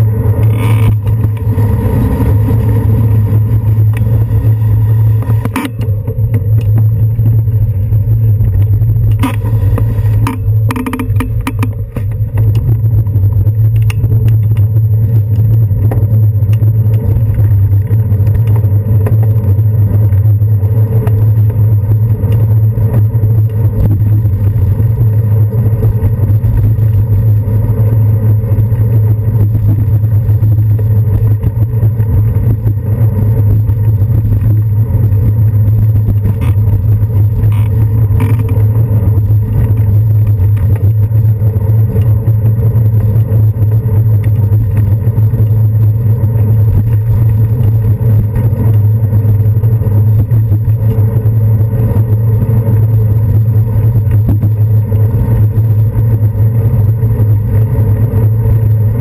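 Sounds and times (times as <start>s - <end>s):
bicycle rattles: 0.0s - 59.0s
wind and road rumble: 0.0s - 59.0s.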